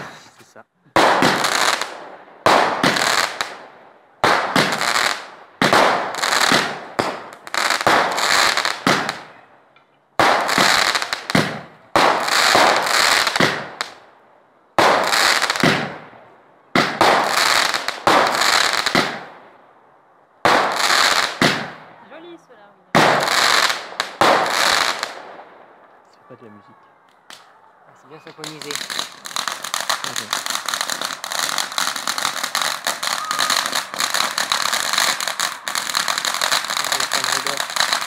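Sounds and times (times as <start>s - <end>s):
fireworks cake firing bangs: 0.0s - 9.4s, 10.2s - 14.0s, 14.8s - 16.1s, 16.7s - 19.4s, 20.4s - 21.9s, 22.9s - 25.5s, 28.3s - 38.0s.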